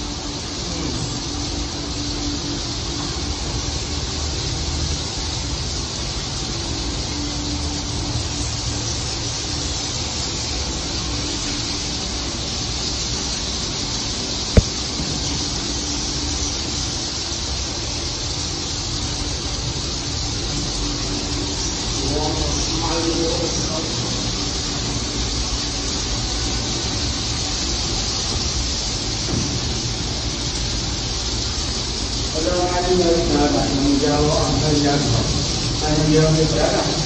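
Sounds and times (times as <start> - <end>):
swiftlets chittering: 0.0 - 37.0.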